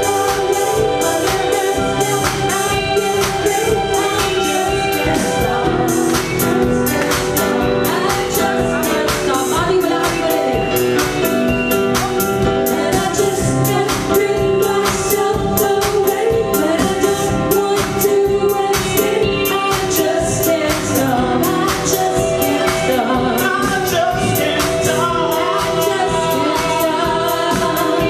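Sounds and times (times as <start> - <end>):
live band playing: 0.0 - 28.0
person singing: 0.0 - 28.0.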